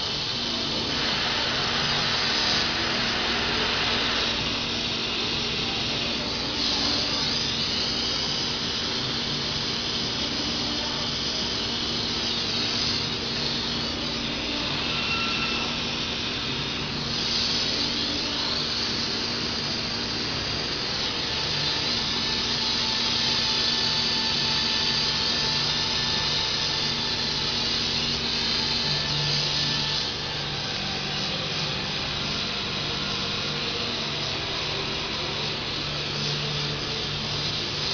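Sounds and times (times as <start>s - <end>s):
machinery humming: 0.0s - 37.9s.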